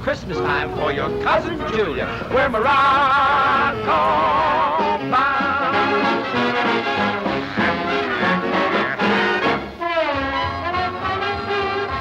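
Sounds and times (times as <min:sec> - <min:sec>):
swing orchestra with brass: 0:00.0 - 0:12.0.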